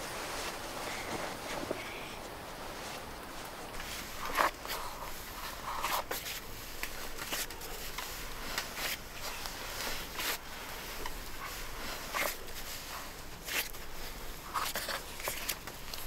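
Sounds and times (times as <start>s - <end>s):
hands kneading dough on metal tray: 2.8s - 16.0s.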